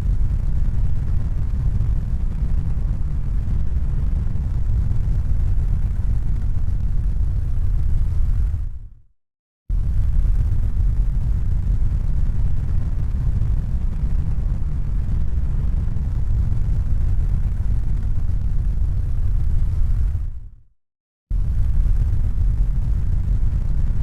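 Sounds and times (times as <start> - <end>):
low rumbling noise: 0.0 - 9.0, 9.7 - 20.5, 21.3 - 24.0.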